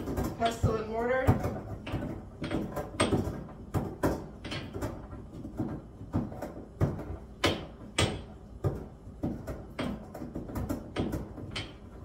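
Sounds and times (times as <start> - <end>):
pestle pounding in a mortar: 0.0 - 11.8.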